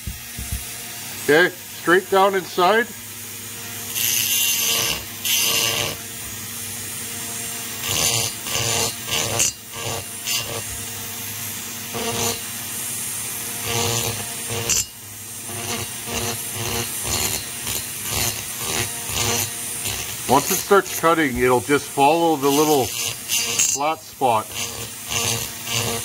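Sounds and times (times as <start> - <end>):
rotary tool humming: 0.0 - 26.0
bit grinding metal: 0.1 - 26.0.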